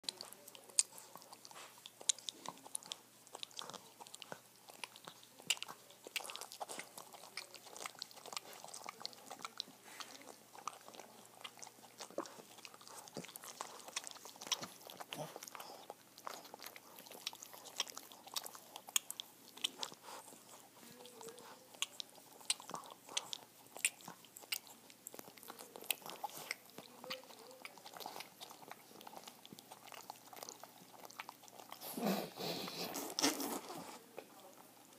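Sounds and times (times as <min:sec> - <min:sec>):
dogs licking and lip smacking: 0:00.0 - 0:34.9.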